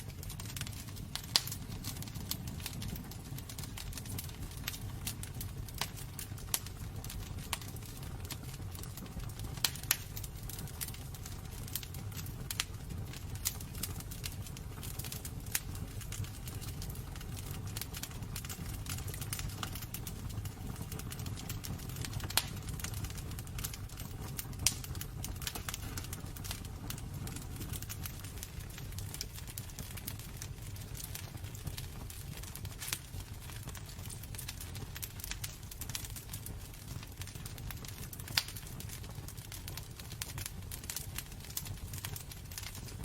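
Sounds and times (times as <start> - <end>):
fire crackles and pops: 0.0 - 43.0
low rumble of flames: 0.0 - 43.0.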